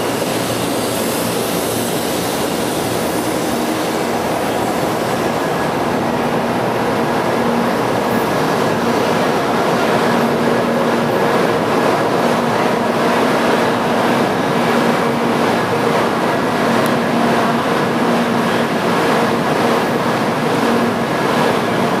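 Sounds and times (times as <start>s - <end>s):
faint train hum: 0.0s - 22.0s
train rolling noise: 0.0s - 22.0s.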